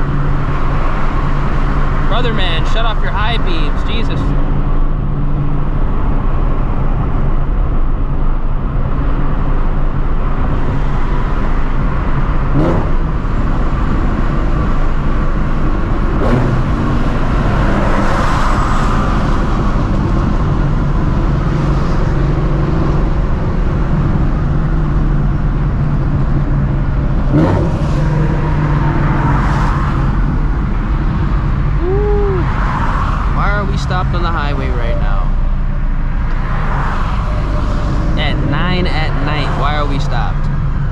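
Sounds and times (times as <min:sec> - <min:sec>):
car engine cruising: 0:00.0 - 0:40.9
road noise inside car: 0:00.0 - 0:40.9.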